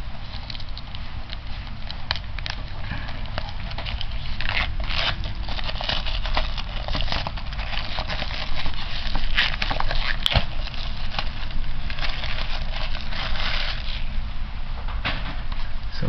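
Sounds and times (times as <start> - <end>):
shrink wrap crinkling: 0.0 - 14.2.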